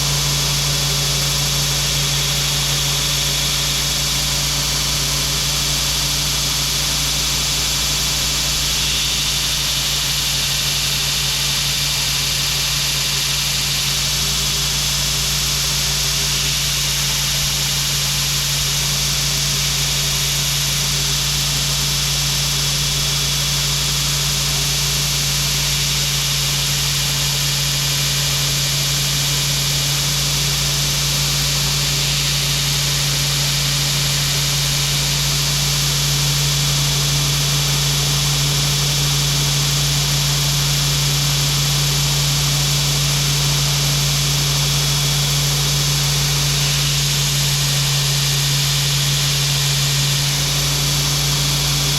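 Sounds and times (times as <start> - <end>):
belt grinder running: 0.0 - 15.4, 23.0 - 51.9.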